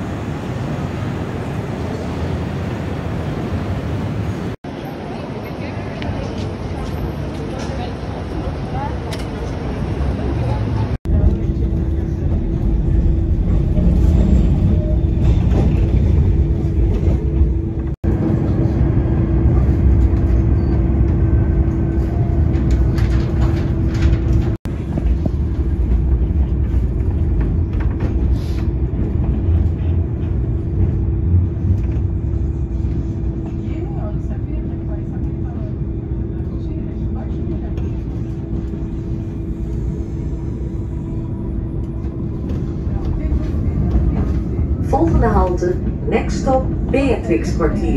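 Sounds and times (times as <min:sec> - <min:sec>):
tram wheels rumbling: 0:00.0 - 0:47.9.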